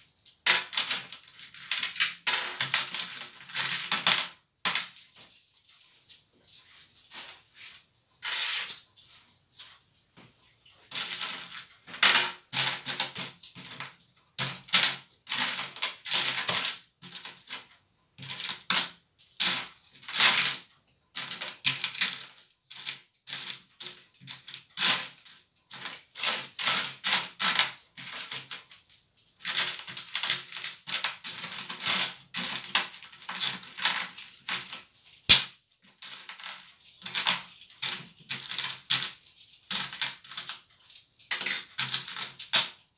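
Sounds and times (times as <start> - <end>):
coins clinking in plastic bowl: 0.0 - 9.8, 10.9 - 42.9.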